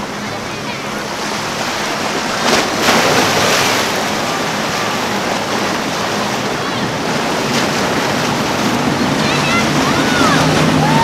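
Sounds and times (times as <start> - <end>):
choppy water rushing: 0.0 - 11.0
outboard engines humming: 0.0 - 11.0.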